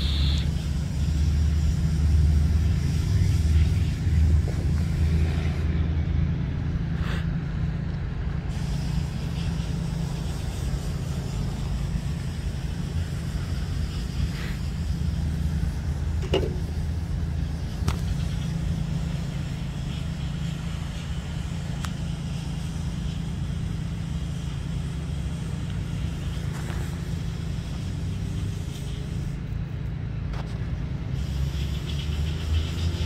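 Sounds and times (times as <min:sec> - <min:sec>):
engine rumble: 0:00.0 - 0:33.0.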